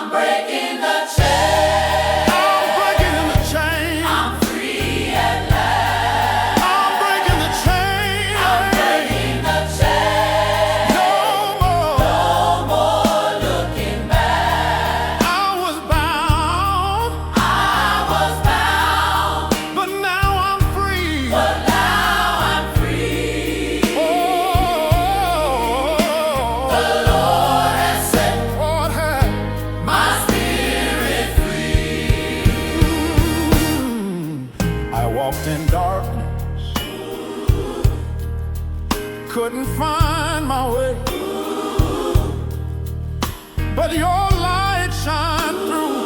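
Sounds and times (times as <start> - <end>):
choir singing gospel music: 0.0 - 46.0
steady drum beat: 1.2 - 34.8, 36.8 - 39.1, 41.1 - 43.5, 44.3 - 44.7
bass: 1.2 - 45.7.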